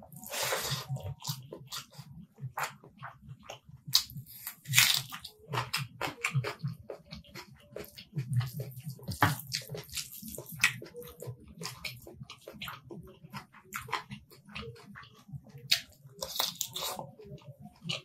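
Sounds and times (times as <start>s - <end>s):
chewing and wet mouth smacking: 0.1s - 18.0s.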